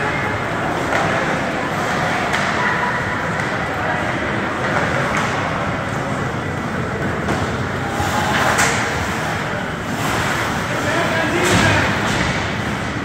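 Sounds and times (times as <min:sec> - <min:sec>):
steady wash of rink noise: 0:00.0 - 0:13.0.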